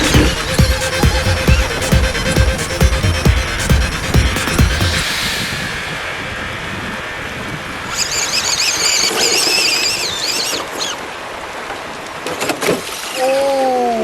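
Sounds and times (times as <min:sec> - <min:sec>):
water splashing: 0:00.0 - 0:13.2.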